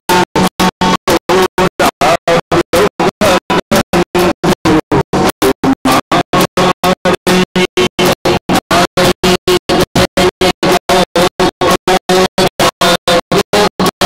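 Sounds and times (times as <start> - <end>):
stuttering folk dance music: 0.1 - 14.0.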